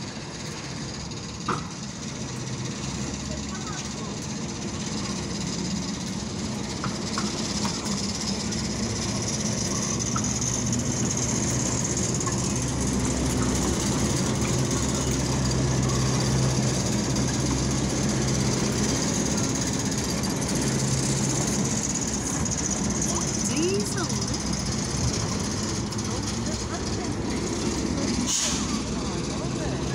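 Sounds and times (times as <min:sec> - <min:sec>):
diesel locomotive engine running: 0:00.0 - 0:29.9.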